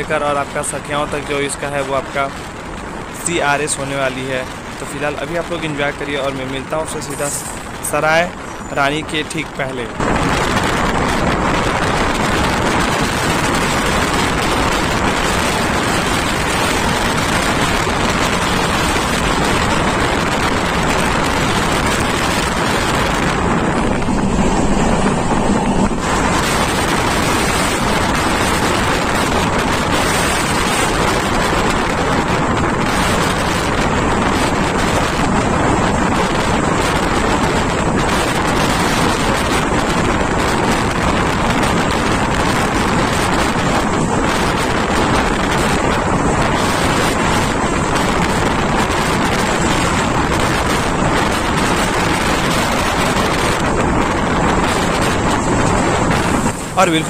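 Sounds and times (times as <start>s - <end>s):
train wheel and track noise: 0.0s - 57.0s
wind on microphone: 0.0s - 57.0s.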